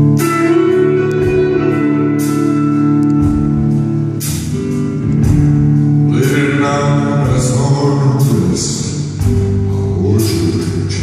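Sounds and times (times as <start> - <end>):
drum kit: 0.0 - 11.0
electric guitar chords: 0.0 - 11.0.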